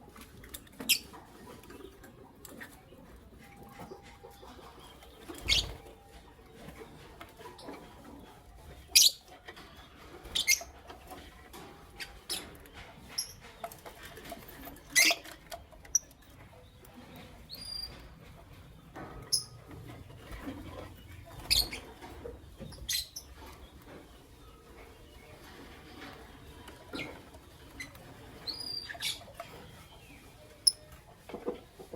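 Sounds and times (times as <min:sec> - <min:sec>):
lovebirds chirping: 0:00.8 - 0:10.8, 0:11.5 - 0:31.4.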